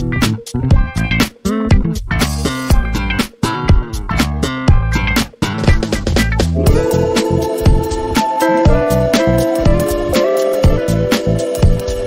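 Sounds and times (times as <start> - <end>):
upbeat funk music: 0.0 - 12.0.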